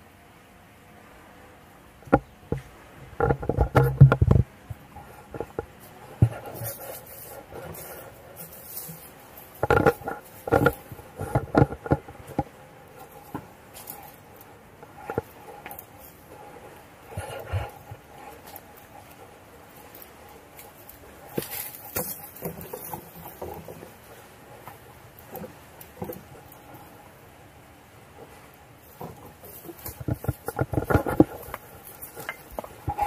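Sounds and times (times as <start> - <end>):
hands and shoes scraping rock: 3.4 - 27.0, 28.3 - 33.0.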